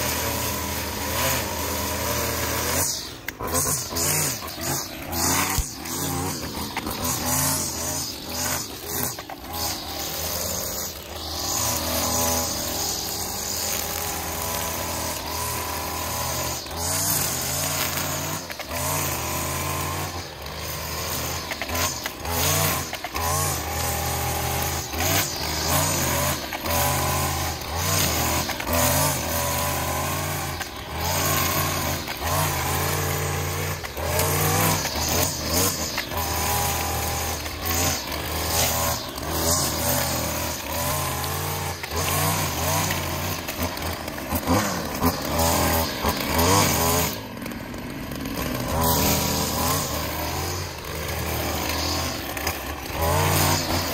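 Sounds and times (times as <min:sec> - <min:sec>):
string trimmer engine: 0:00.0 - 0:53.9.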